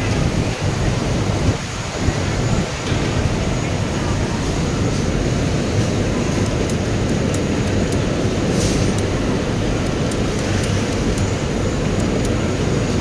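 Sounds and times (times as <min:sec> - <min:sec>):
factory machine din: 0:00.0 - 0:13.0.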